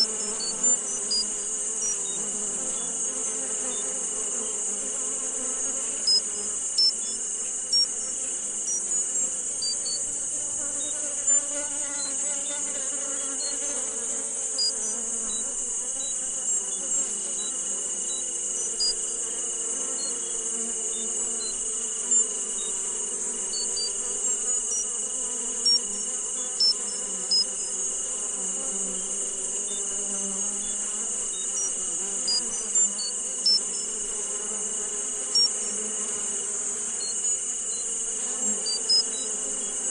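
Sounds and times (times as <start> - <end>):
high insect-like chirps: 0.0 - 39.9.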